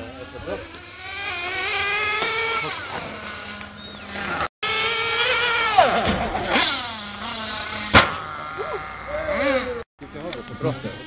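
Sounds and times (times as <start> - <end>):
remote control car motor whining: 0.0 - 11.0.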